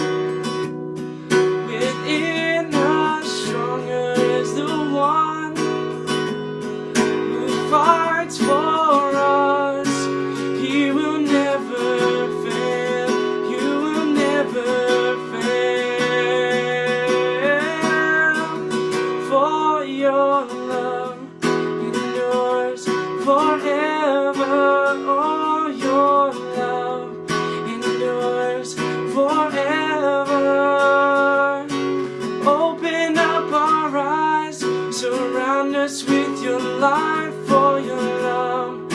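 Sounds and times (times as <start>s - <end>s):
acoustic guitar strumming: 0.0s - 38.9s
person singing: 1.5s - 6.2s, 7.0s - 38.9s.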